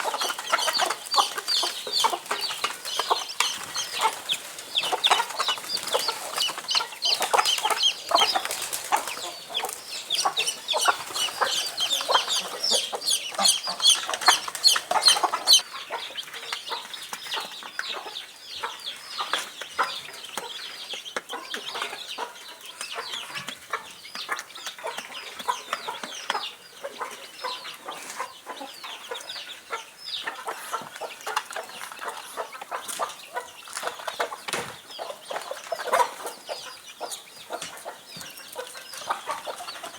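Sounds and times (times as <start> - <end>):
chickens clucking and chirping: 0.0 - 39.9.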